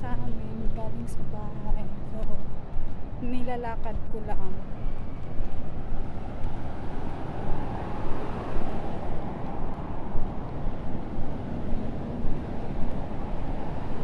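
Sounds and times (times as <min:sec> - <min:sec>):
road traffic rumble: 0:00.0 - 0:14.0
wind buffeting microphone: 0:00.0 - 0:14.0.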